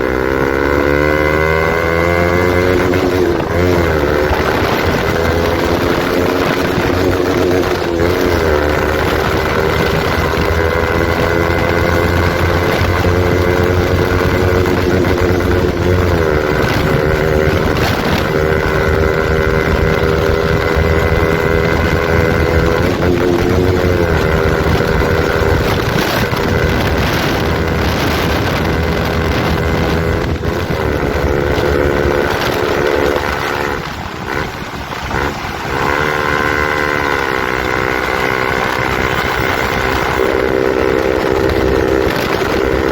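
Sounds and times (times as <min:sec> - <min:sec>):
loud motorcycle engine: 0:00.0 - 0:42.9.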